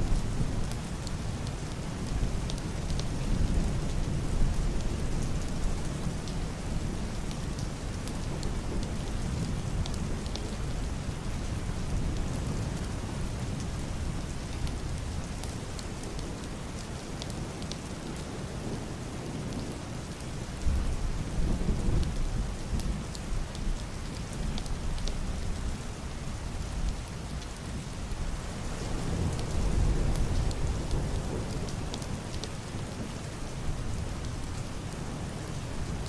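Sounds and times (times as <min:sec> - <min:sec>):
heavy rain on roof and window: 0:00.0 - 0:36.0.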